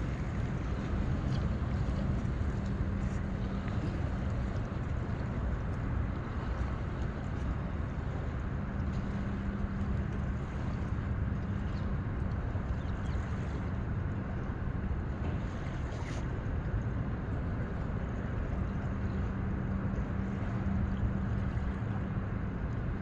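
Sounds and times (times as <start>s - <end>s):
low hum: 0.0s - 23.0s
water on shoreline: 0.0s - 23.0s
wind: 0.0s - 23.0s.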